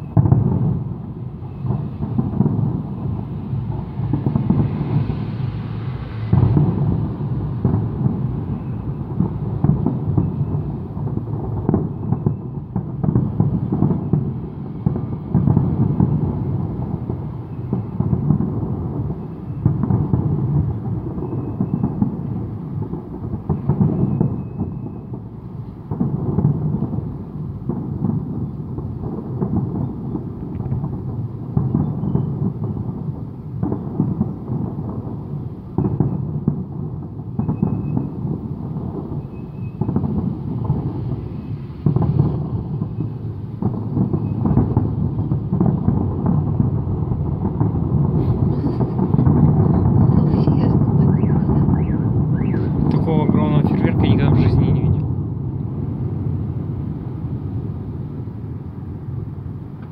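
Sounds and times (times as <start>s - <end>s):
fireworks shells bursting: 0.0s - 55.2s.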